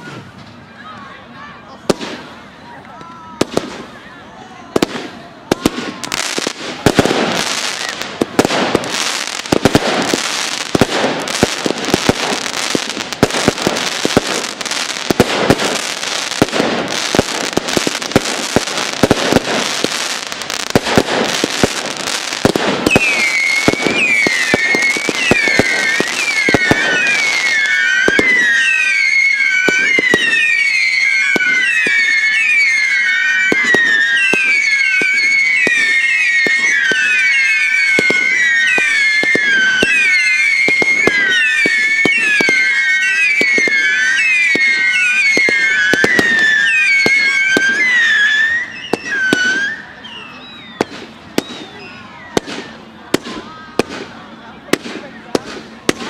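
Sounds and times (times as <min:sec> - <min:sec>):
fireworks crackling: 0:00.0 - 0:56.0
whistling fireworks: 0:00.0 - 0:56.0
firework bangs: 0:01.8 - 0:02.5, 0:03.4 - 0:04.0, 0:04.7 - 0:56.0.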